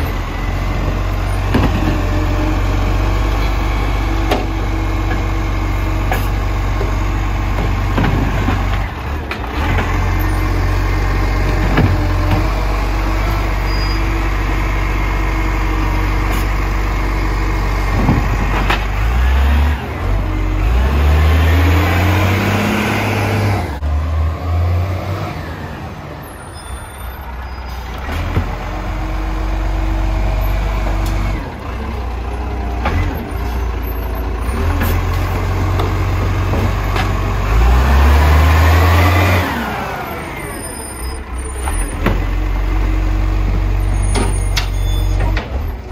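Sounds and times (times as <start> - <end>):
garbage truck engine revving: 0.0 - 45.9.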